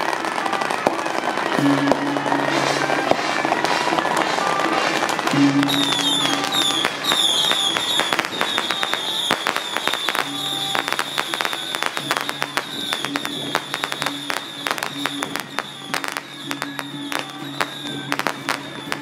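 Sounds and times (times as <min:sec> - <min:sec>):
firecrackers crackling: 0:00.0 - 0:19.0
music with wavering tone: 0:01.4 - 0:19.0.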